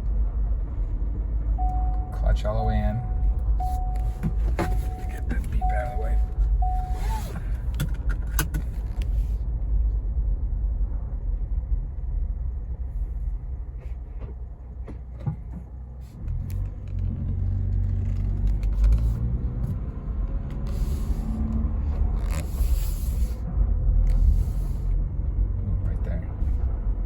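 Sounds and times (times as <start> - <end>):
car cabin low rumble: 0.0 - 27.0.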